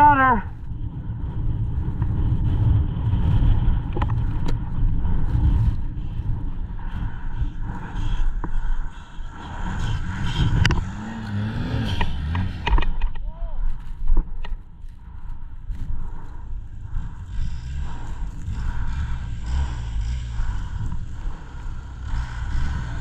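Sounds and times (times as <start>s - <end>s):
snowmobile engine running: 0.0s - 23.0s
wind rumble on microphone: 0.0s - 23.0s.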